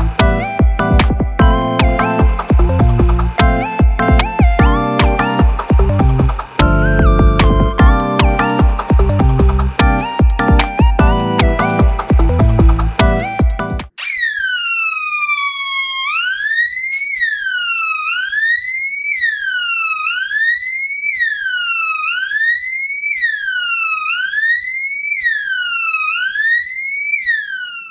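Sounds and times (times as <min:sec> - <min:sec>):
electronic siren sweeping: 0:01.6 - 0:27.9.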